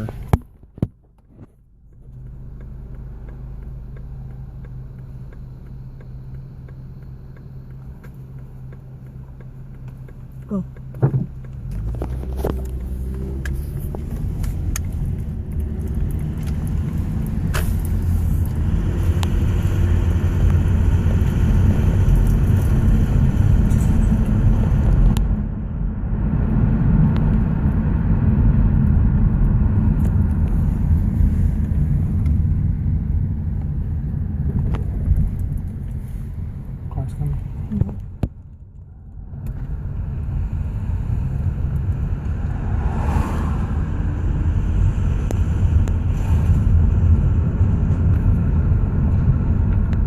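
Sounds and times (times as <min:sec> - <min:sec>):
car road and engine rumble: 0:00.0 - 0:50.0.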